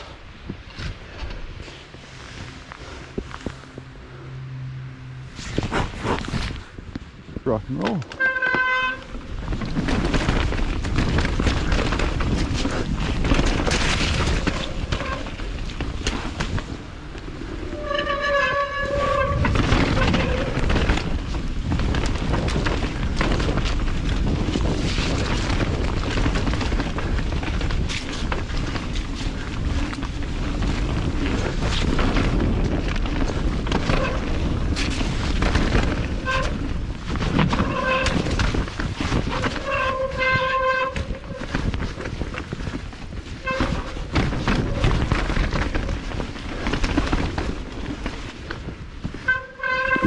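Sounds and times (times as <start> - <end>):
bike tyres rumbling: 0.0 - 50.0
wind on camera: 5.2 - 50.0.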